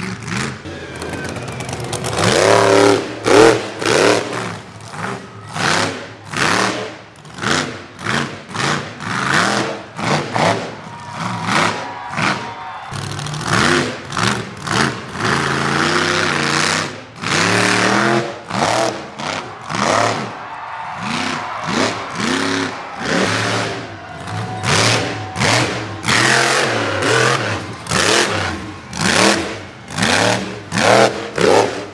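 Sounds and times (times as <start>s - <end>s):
monster truck engine revving: 0.0s - 31.9s.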